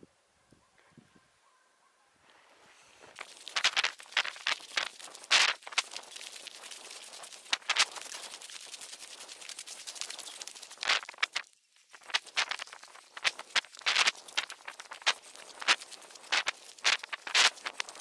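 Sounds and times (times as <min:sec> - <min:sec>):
running footsteps crunching snow: 0:03.0 - 0:18.0.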